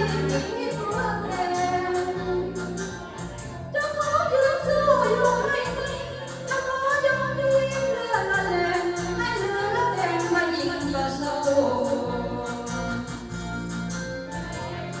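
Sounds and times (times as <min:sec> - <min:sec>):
woman singing: 0:00.0 - 0:13.5
band accompaniment with bass: 0:00.0 - 0:15.0.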